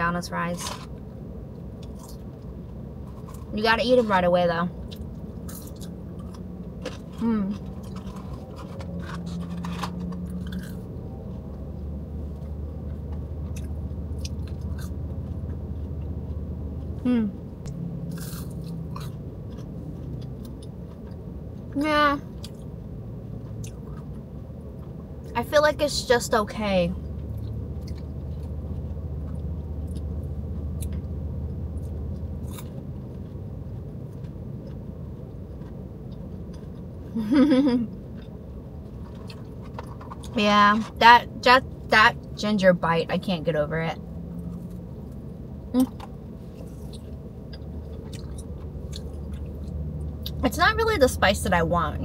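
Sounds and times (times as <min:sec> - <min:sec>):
steady low hum: 0:00.0 - 0:52.0
person chewing crunchy fries: 0:00.6 - 0:04.1, 0:04.8 - 0:25.3, 0:27.0 - 0:37.2, 0:37.8 - 0:40.4, 0:44.4 - 0:50.4.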